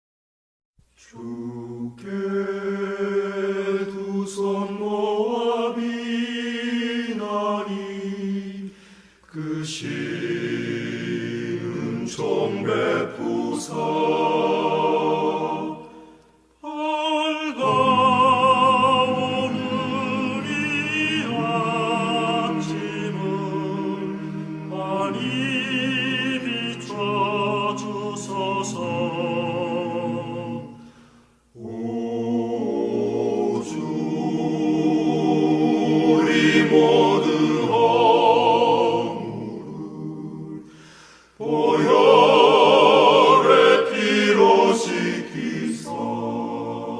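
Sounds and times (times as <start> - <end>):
hymn sung with accompaniment: 1.0 - 46.9.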